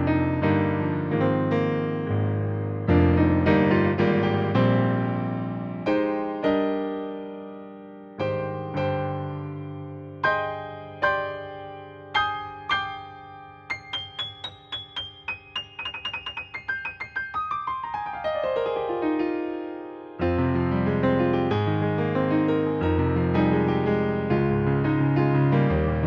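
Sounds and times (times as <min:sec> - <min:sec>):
digital piano playing: 0:00.0 - 0:26.0.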